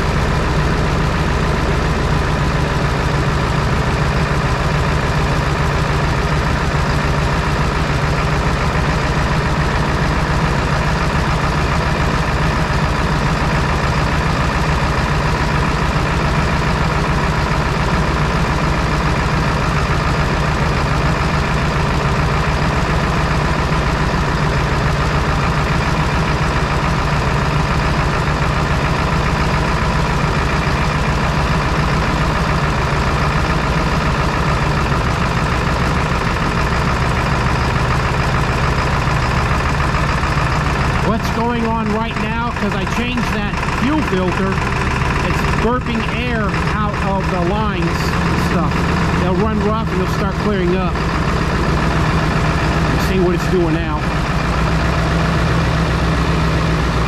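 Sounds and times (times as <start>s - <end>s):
diesel engine idling rough: 0.0s - 57.0s.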